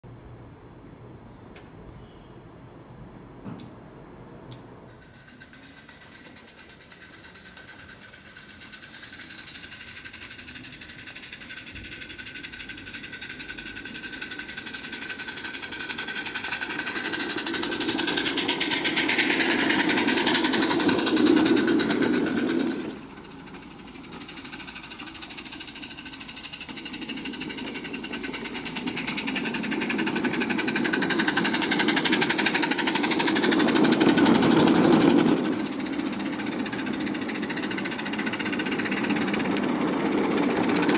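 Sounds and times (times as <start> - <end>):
clatter of small wheels on track: 4.9 - 40.9
steam locomotive chuffing: 4.9 - 40.9.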